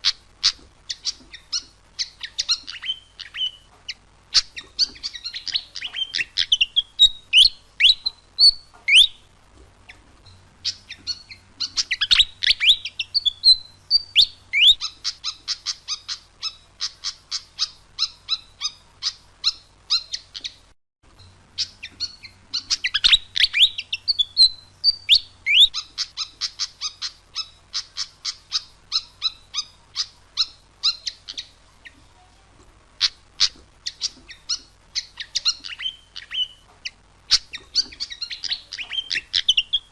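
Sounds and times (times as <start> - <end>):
bird whistling and chattering: 0.0 - 9.3, 10.6 - 20.6, 21.6 - 32.0, 33.0 - 39.9.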